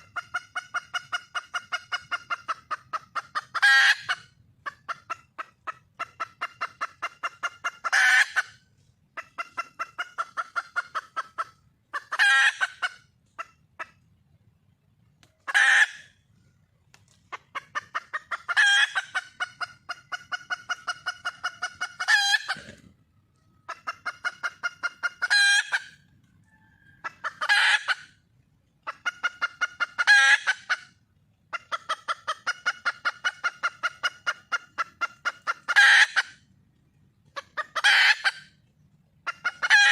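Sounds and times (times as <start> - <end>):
hen cackling: 0.0 - 14.1, 15.2 - 16.2, 17.3 - 23.0, 23.6 - 36.5, 37.2 - 38.6, 39.2 - 39.9.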